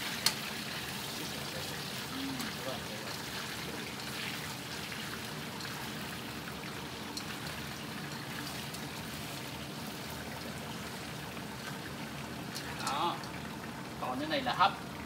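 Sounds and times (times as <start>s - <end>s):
oil popping: 0.0s - 14.2s
food sizzling in oil: 0.0s - 15.0s.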